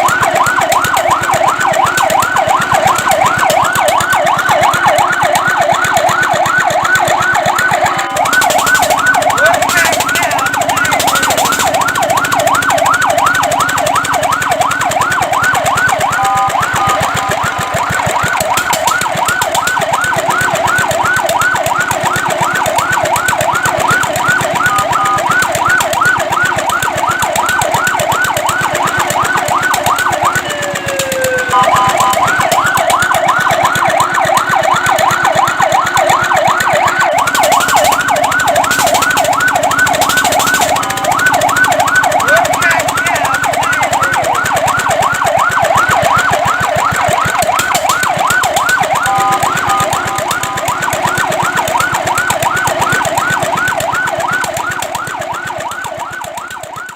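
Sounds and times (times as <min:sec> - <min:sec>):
fire truck siren yelping: 0:00.0 - 0:56.9.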